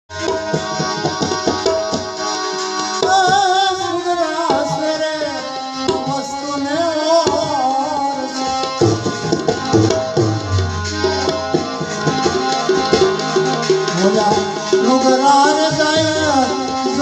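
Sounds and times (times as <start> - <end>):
tabla rhythm: 0.1 - 17.0.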